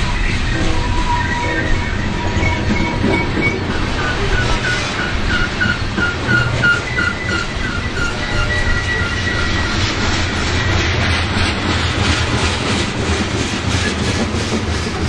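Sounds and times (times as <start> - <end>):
freight train rumbling: 0.0 - 15.0
train wheels clicking over rail joints: 0.0 - 15.0.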